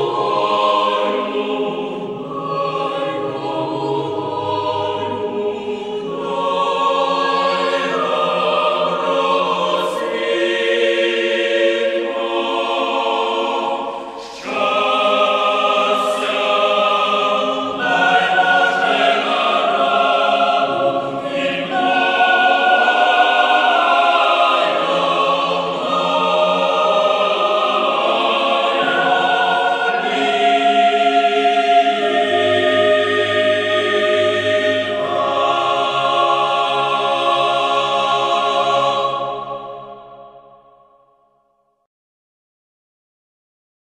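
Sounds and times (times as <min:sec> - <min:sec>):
choir singing in harmony: 0:00.0 - 0:41.0.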